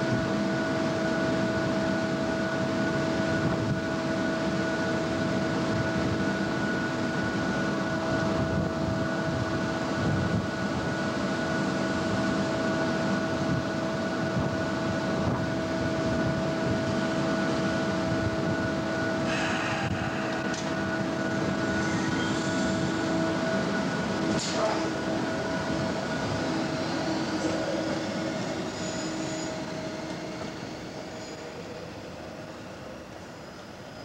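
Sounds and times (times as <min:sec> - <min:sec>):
constant rush of noise: 0:00.0 - 0:33.9
electric train humming: 0:00.0 - 0:34.0.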